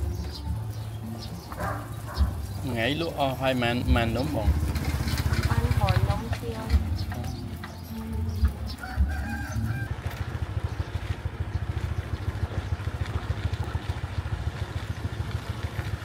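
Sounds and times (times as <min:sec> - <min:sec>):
small engine puttering: 0:00.0 - 0:16.0.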